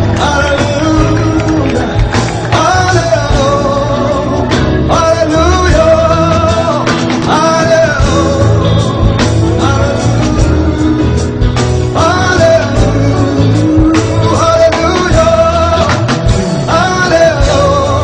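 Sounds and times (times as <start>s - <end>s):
band with drums: 0.0s - 18.0s
singers holding long notes: 0.0s - 18.0s.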